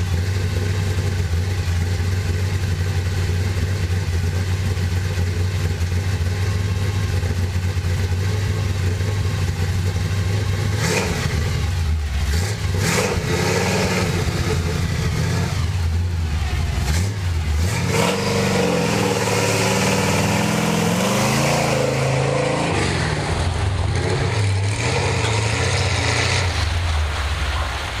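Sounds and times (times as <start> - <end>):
truck engine revving: 0.0 - 28.0.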